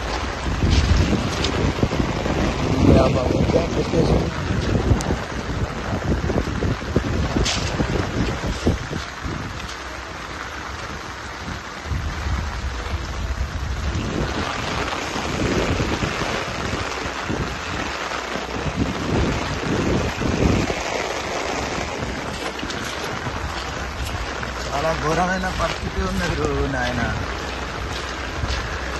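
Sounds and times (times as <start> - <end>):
heavy rain: 0.0 - 28.9
wind buffeting microphone: 0.0 - 28.9.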